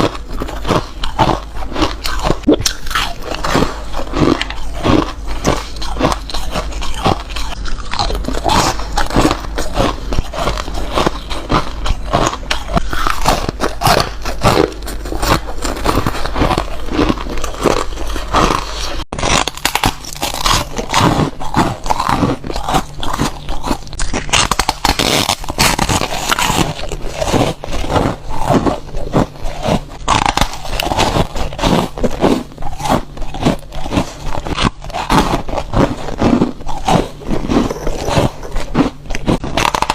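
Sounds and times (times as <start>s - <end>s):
crunching foam ice: 0.0s - 39.9s.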